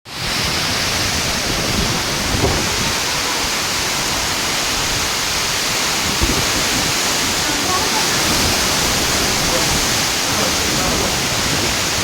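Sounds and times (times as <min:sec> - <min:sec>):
strong wind and heavy rain: 0:00.1 - 0:12.0.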